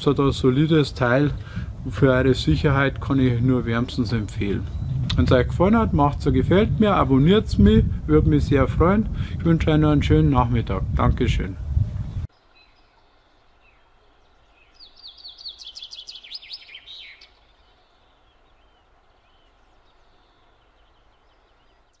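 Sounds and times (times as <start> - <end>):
songbird chirping: 0.0 - 7.5, 11.0 - 22.0.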